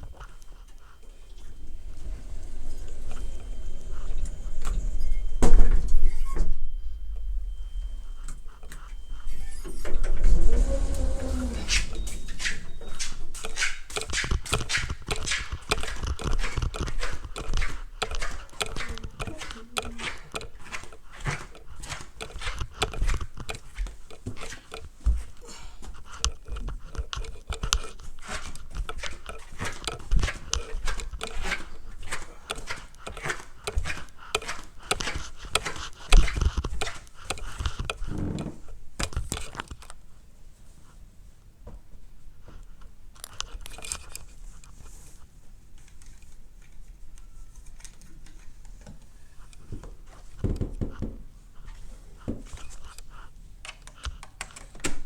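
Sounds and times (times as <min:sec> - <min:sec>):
crinkling and rustling handling noise: 0:00.0 - 0:55.0.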